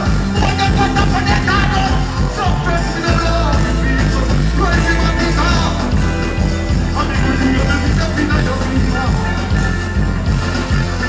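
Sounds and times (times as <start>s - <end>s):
dancehall music with heavy bass: 0.0s - 11.0s.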